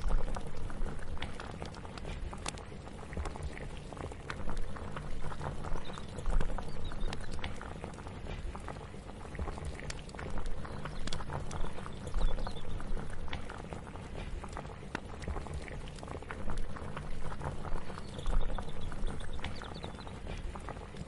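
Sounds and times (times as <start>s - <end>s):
liquid bubbling in a pot: 0.0s - 21.0s.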